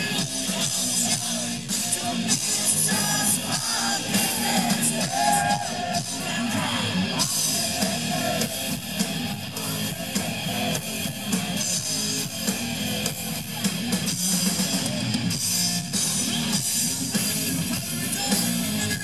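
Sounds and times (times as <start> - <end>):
bass guitar: 0.0 - 19.0
drum kit with cymbals: 0.0 - 19.0
electric guitar: 0.0 - 19.0.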